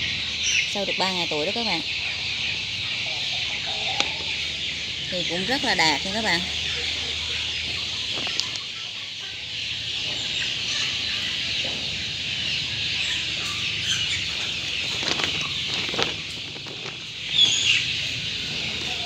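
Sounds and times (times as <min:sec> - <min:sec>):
baby chicks peeping: 0:00.0 - 0:19.0.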